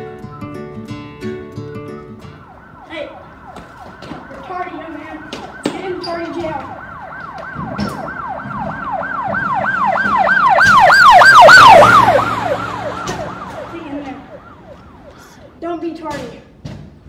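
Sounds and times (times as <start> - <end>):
emergency siren wailing: 1.6 - 15.6.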